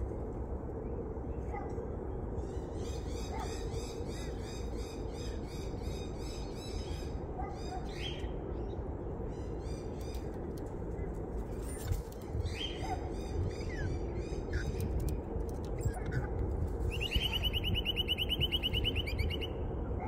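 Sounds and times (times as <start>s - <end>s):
low outdoor background noise: 0.0s - 20.0s.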